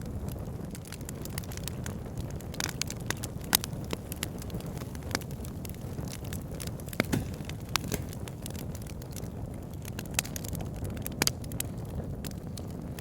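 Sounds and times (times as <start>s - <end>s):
campfire flames rushing: 0.0s - 13.0s
fire crackling and popping: 0.0s - 13.0s.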